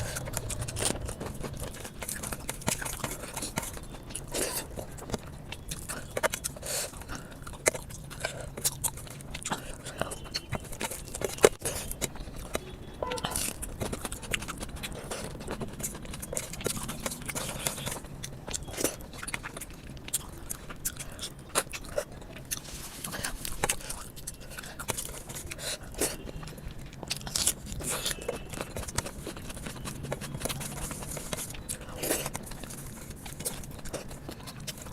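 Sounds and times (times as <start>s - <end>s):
chewing with wet smacks: 0.0s - 34.9s.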